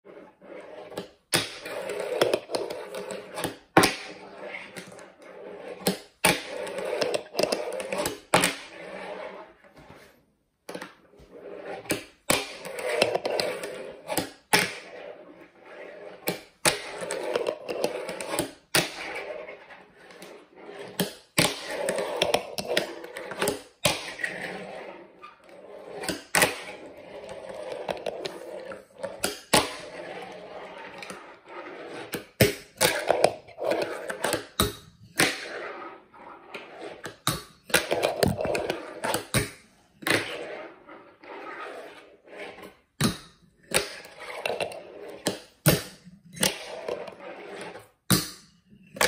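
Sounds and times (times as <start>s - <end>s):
fingerboard wheels rolling on wood: 0.0s - 10.1s, 10.9s - 43.0s, 43.7s - 48.0s.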